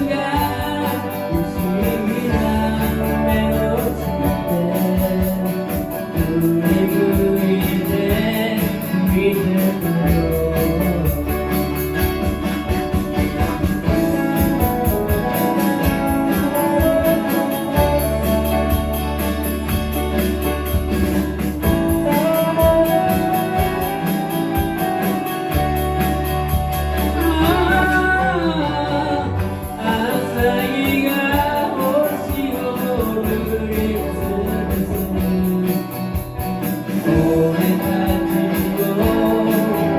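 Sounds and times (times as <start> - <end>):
person singing: 0.0 - 11.8, 13.9 - 20.1, 21.7 - 39.9
live band playing pop song: 0.0 - 39.9.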